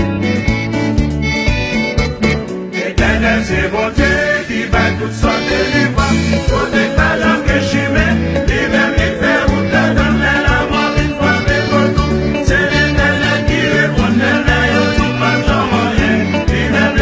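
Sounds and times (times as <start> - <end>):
upbeat music with singing: 0.0 - 17.0.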